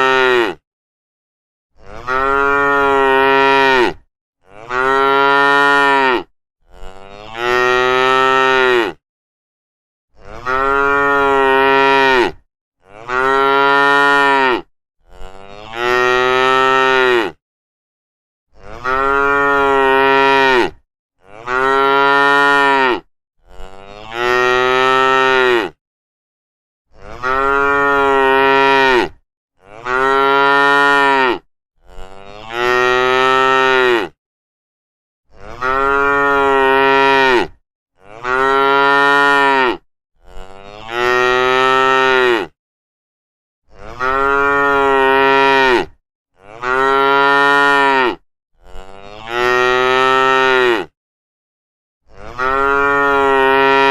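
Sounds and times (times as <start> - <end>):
cattle mooing: 1.8 - 9.0, 10.2 - 17.4, 18.6 - 25.8, 27.0 - 34.2, 35.4 - 42.5, 43.8 - 50.9, 52.2 - 53.9.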